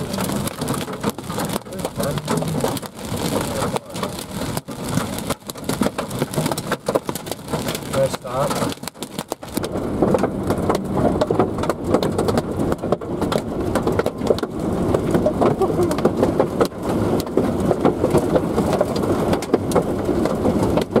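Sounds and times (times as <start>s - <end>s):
rain tapping on vehicle roof: 0.0s - 21.0s.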